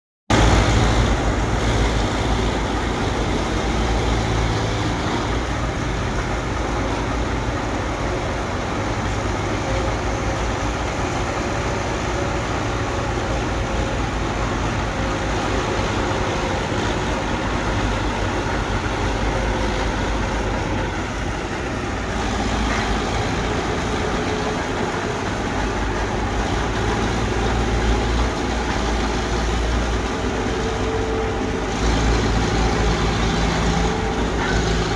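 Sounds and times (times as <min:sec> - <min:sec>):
bulldozer diesel engine rumbling: 0:00.3 - 0:34.9.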